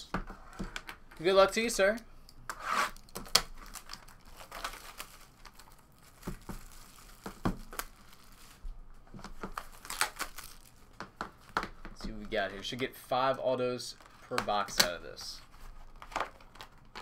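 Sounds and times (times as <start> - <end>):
plastic shrink wrap crinkling: 3.0 - 17.0.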